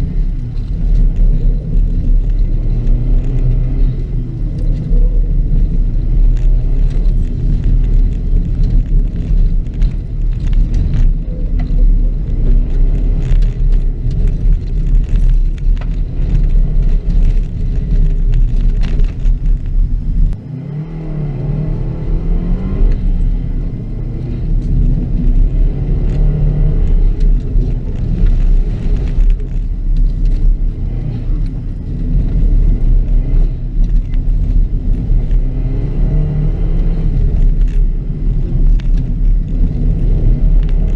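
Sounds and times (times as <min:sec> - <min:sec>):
sharp clicks and rattles: 0:00.0 - 0:20.4, 0:22.8 - 0:40.9
rally car engine revving: 0:00.0 - 0:40.9.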